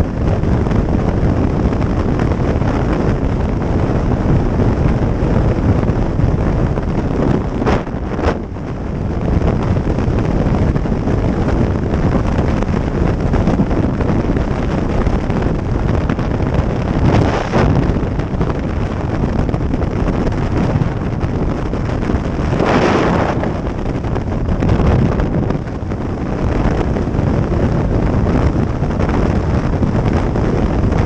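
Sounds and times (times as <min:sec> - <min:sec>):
road noise: 0:00.0 - 0:30.7
wind buffeting microphone: 0:00.0 - 0:31.0.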